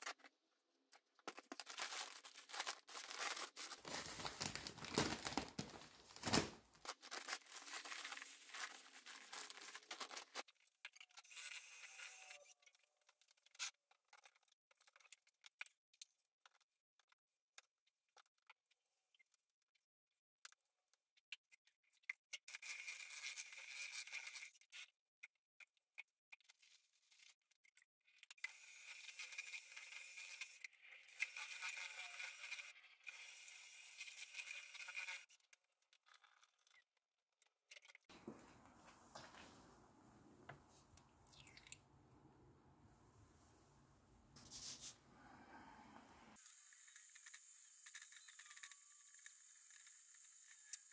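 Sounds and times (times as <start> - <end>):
faint clicks and scrapes: 6.8 - 41.1, 43.3 - 50.9.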